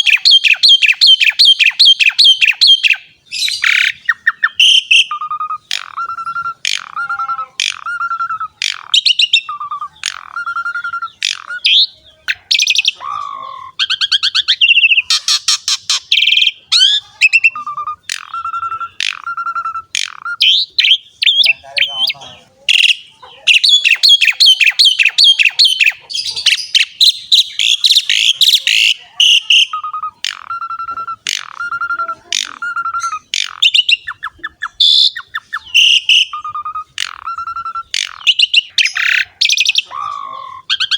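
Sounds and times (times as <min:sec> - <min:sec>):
starling singing whistles and trills: 0:00.0 - 0:40.9.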